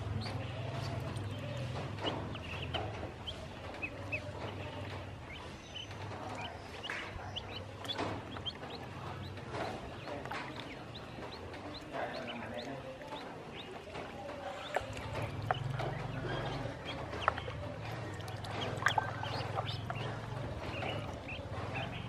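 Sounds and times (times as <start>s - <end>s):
ducklings peeping: 0.0s - 22.0s
water splashing in plastic basin: 0.0s - 22.0s.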